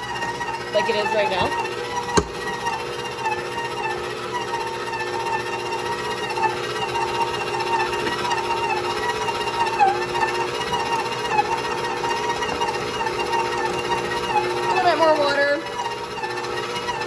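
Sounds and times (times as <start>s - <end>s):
stand mixer motor whining: 0.0s - 17.0s.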